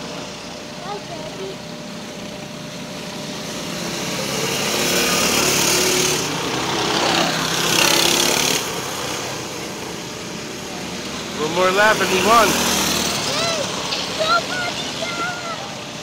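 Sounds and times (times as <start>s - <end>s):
race car engines buzzing: 0.0s - 16.0s.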